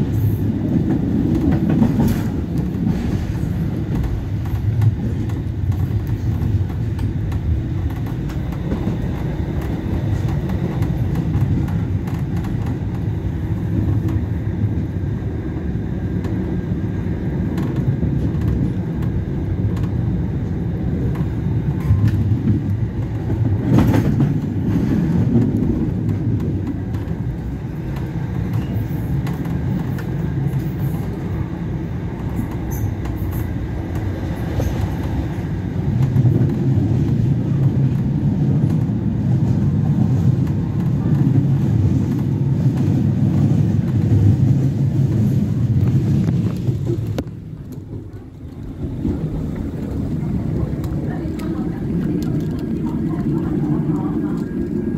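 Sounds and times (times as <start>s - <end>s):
tram wheels rumbling on rails: 0.0s - 54.9s.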